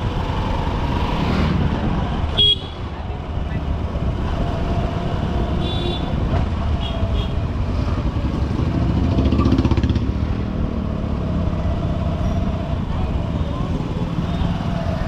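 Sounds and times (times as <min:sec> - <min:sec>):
city traffic noise: 0:00.0 - 0:15.0.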